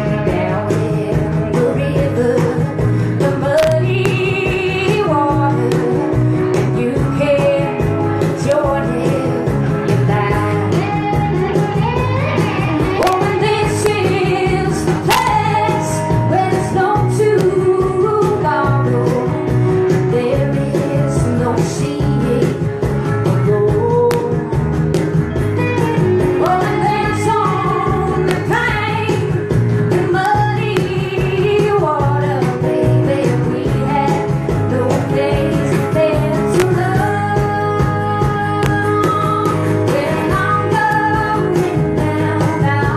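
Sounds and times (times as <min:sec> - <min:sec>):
woman singing: 0:00.0 - 0:24.7, 0:25.7 - 0:42.9
cajon beat: 0:00.0 - 0:42.9
electric guitar: 0:00.0 - 0:42.9.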